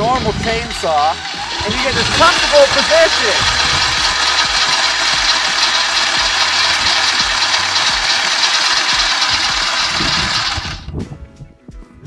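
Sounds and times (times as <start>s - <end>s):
circular saw grinding into tree trunk: 0.0s - 10.9s.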